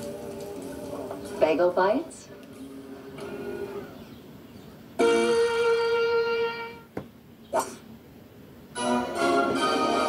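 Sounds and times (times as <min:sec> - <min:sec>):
television musical jingle: 0:00.0 - 0:06.9, 0:08.7 - 0:10.0.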